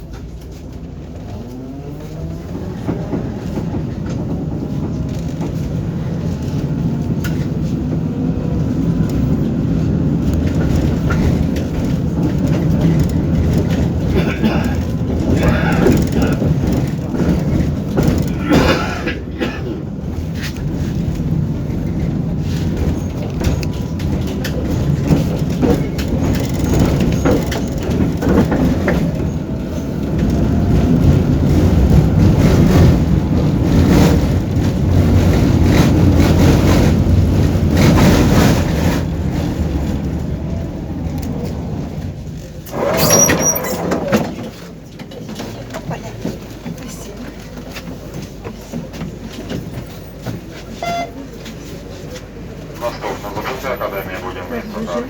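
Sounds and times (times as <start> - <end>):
tram rumbling on track: 0.0 - 55.0.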